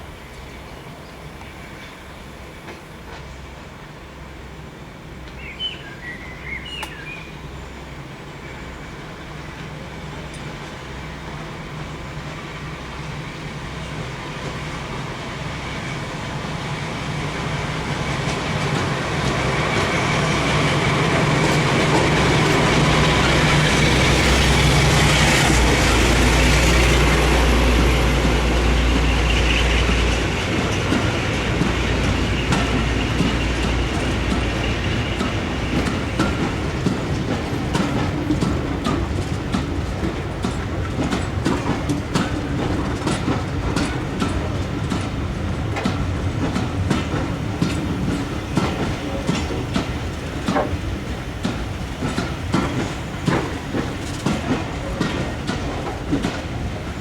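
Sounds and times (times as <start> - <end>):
train approaching: 0.0 - 57.0.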